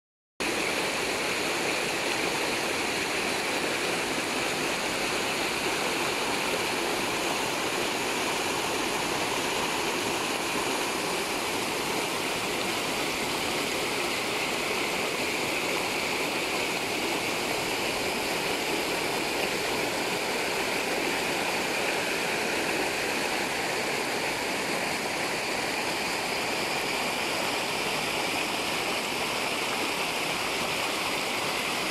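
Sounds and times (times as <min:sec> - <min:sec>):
stream rushing over boulders: 0:00.4 - 0:31.9.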